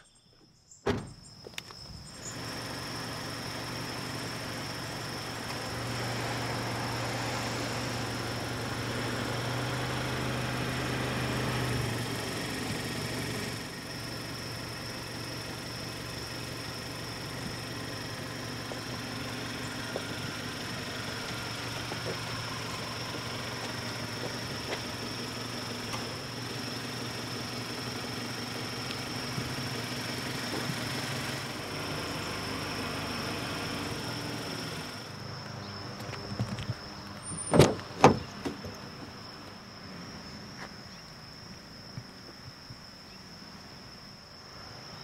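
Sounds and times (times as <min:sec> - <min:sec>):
car engine idling: 0:02.0 - 0:41.8.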